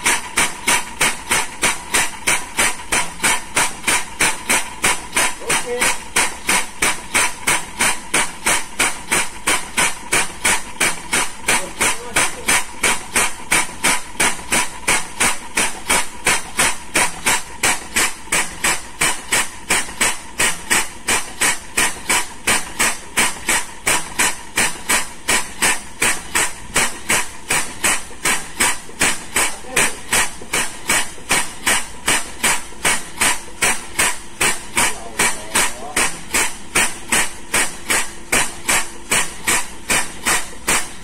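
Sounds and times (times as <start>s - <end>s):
diaphragm pump hissing exhaust air: 0.0s - 41.0s.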